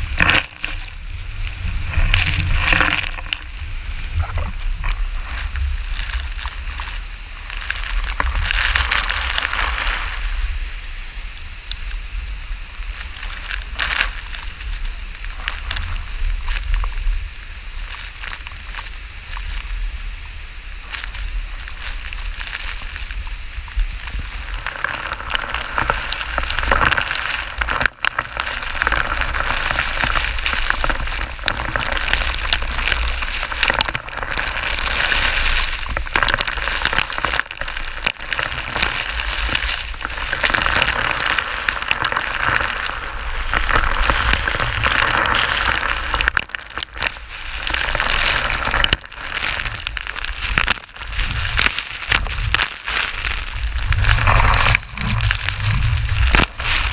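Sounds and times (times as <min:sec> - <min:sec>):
drops crackling on microphone: 0:00.0 - 0:10.5, 0:12.6 - 0:56.9
rush of falling water: 0:00.0 - 0:56.9.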